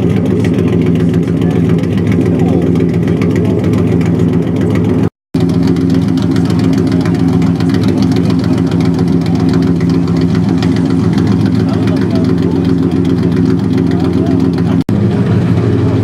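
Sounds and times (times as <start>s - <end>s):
sports car engine idling: 0.0s - 16.0s.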